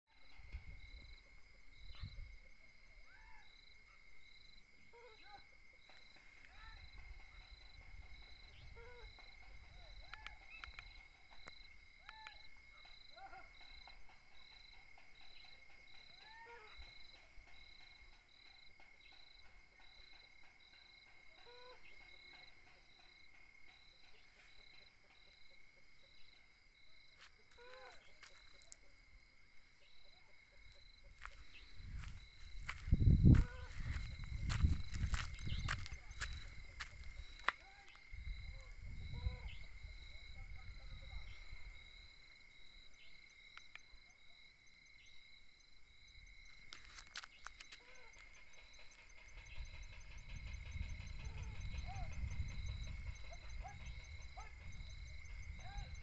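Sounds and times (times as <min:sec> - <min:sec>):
crickets trilling: 0:00.1 - 0:56.0
high insect chirp: 0:00.1 - 0:56.0.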